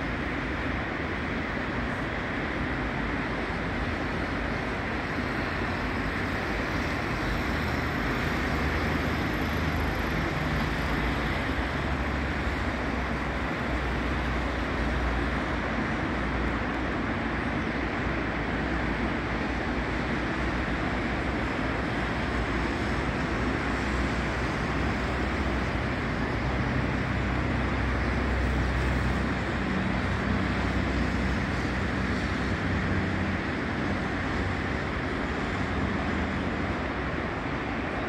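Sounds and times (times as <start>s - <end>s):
deep traffic rumble: 0.0s - 38.0s
hum of passing cars: 0.0s - 38.0s.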